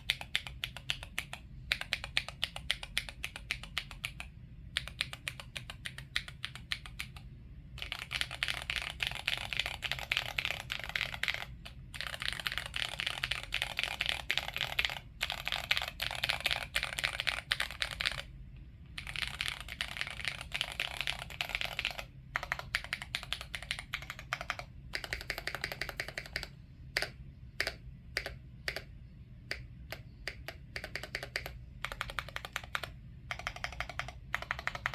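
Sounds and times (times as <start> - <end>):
mechanical keyboard typing: 0.0 - 18.3, 18.9 - 34.9.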